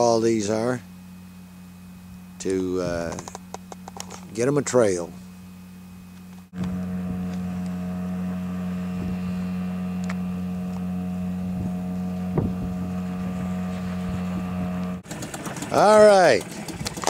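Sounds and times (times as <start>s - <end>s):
outboard motor humming: 0.0s - 17.0s.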